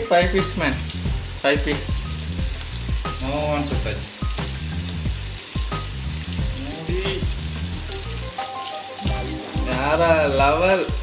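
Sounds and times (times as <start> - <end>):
background music with bass: 0.0 - 11.0
fish sizzling in oil: 0.0 - 11.0.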